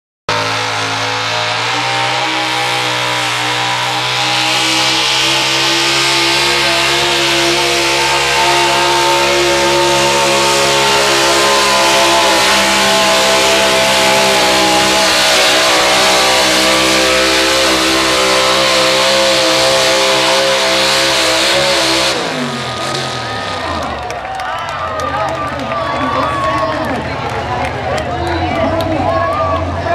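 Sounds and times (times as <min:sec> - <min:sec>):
truck engine at high revs: 0:00.3 - 0:29.9.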